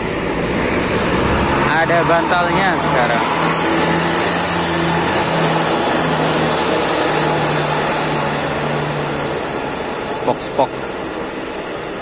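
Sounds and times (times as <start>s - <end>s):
bus diesel engine: 0.0s - 12.0s.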